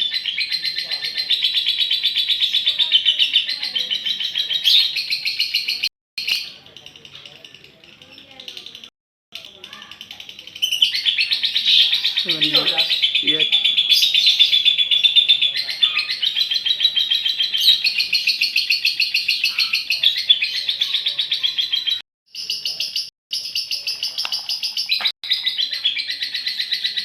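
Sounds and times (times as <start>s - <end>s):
lovebird chattering song: 0.0s - 27.0s.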